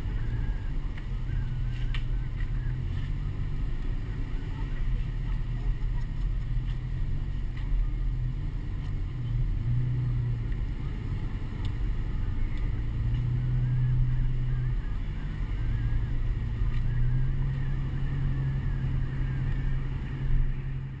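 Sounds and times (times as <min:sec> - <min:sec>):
truck engine and tyres rumbling: 0:00.0 - 0:21.0.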